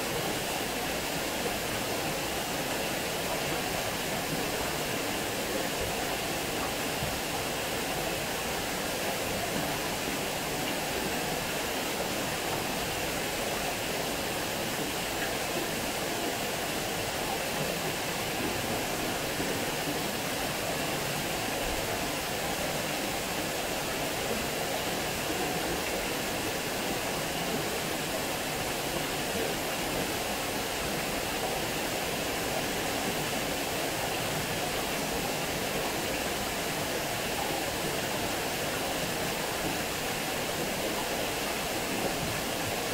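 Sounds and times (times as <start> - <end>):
water rushing over weir: 0.0 - 42.9.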